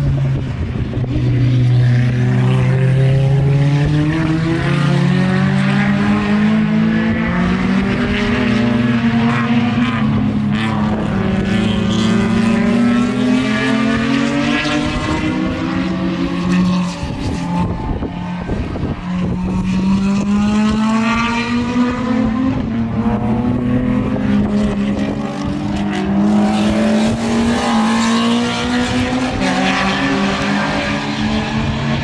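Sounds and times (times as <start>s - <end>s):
race car engines accelerating: 0.0s - 32.0s.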